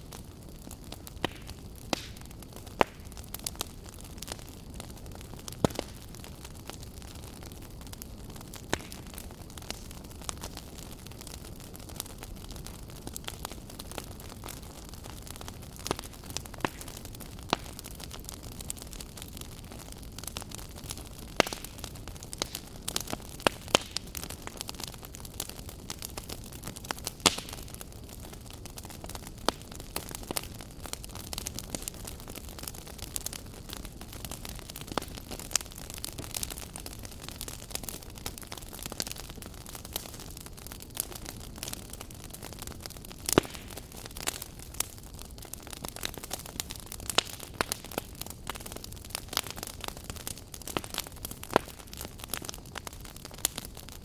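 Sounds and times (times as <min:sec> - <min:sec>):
fire crackles and pops: 0:00.0 - 0:54.0
low rumble of flame: 0:00.0 - 0:54.0.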